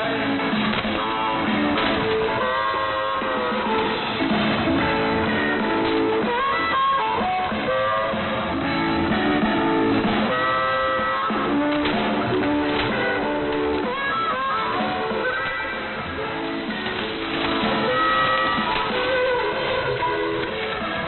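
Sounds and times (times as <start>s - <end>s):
muffled guitar music on radio: 0.0s - 21.0s.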